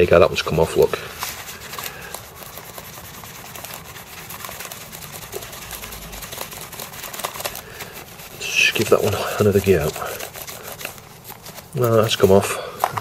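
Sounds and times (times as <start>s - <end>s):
paper towel scrubbing plastic: 0.0s - 13.0s.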